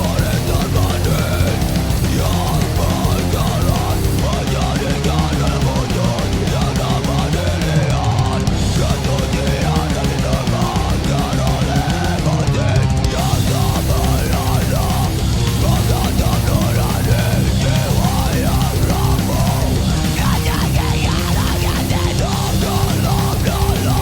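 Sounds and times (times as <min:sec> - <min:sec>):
heavy metal rock music: 0:00.0 - 0:24.0.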